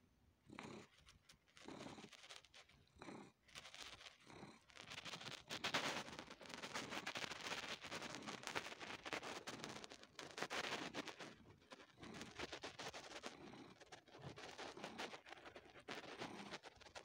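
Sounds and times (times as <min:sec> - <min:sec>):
cat purring: 0:00.4 - 0:17.0.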